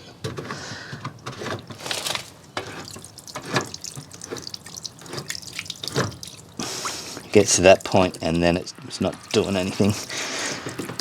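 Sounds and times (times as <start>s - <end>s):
water dripping and splashing: 1.4s - 11.0s.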